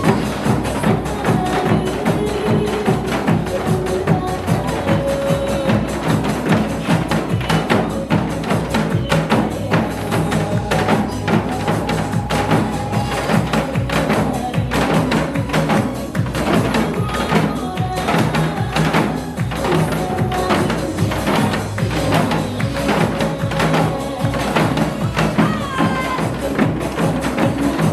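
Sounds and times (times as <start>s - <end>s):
hourglass drum struck in fast rhythm: 0.0s - 27.9s
recorded song with held melody: 0.0s - 27.9s.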